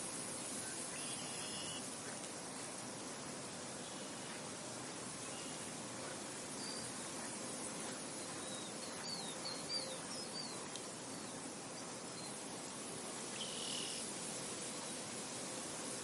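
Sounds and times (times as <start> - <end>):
insects: 0.0 - 16.0
wind hiss: 0.0 - 16.0.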